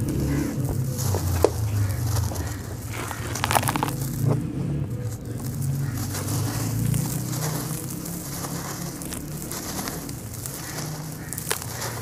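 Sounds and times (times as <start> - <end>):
sand-cement chunk crumbling: 0.0 - 4.4, 5.0 - 12.0.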